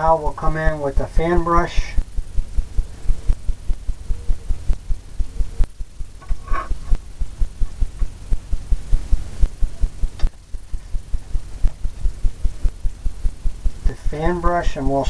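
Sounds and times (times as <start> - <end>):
rhythmic low thumping: 0.0 - 15.0.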